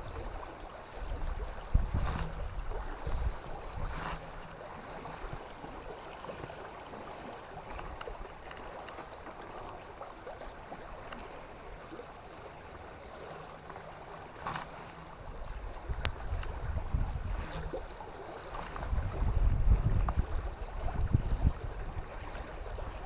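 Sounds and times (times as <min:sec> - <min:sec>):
water trickles and splashes: 0:00.0 - 0:23.0.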